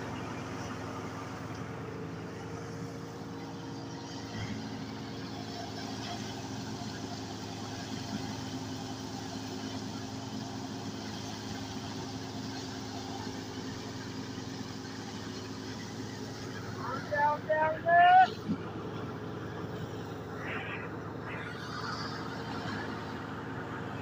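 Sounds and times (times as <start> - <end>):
tractor engine drone: 0.0 - 24.0.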